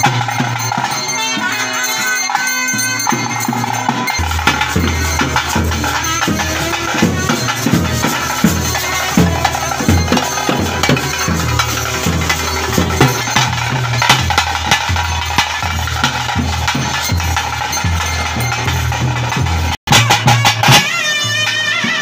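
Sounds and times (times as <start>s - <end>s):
drums beating: 0.0s - 22.0s
jingling metal percussion: 0.0s - 22.0s.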